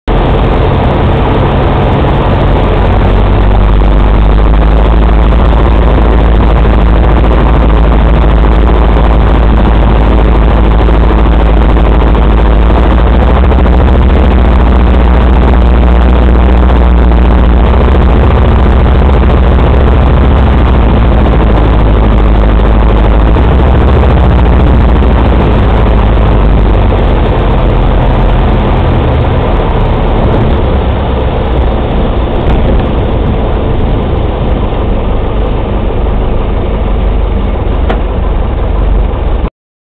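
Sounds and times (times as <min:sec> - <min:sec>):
light aircraft engine and propeller: 0:00.1 - 0:39.5.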